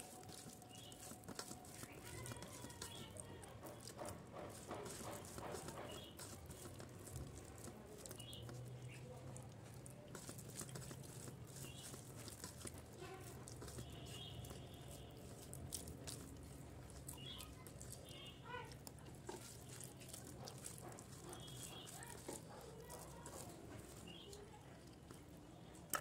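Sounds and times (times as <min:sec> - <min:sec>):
chewing and mouth clicks: 0:00.0 - 0:25.9
fingers mixing rice on steel plate: 0:00.0 - 0:26.0.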